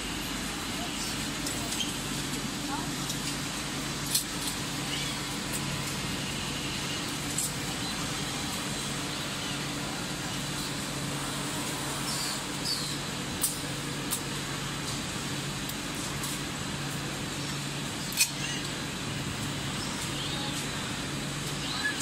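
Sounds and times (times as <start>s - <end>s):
machine hum with hiss: 0.0s - 22.0s.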